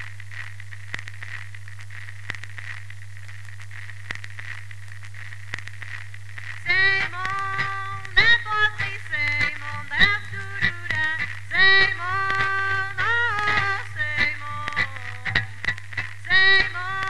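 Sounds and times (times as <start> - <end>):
crackling clicks and pops: 0.0 - 17.0
faint hiss: 0.0 - 17.0
low hum: 0.0 - 17.0.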